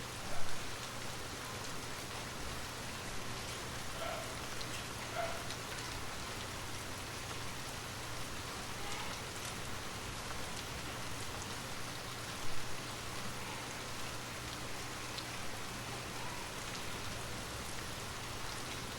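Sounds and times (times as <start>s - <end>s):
rain hissing on a surface: 0.0s - 18.9s.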